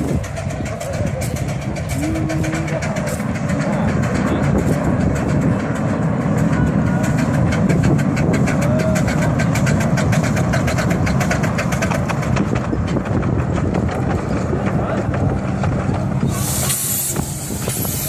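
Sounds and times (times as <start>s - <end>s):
miniature steam locomotive running: 0.0s - 18.0s.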